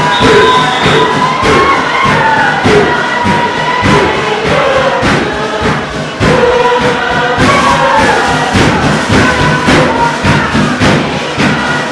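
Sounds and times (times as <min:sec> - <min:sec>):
group singing in chorus: 0:00.0 - 0:11.9
wooden box drum beats: 0:00.0 - 0:11.9.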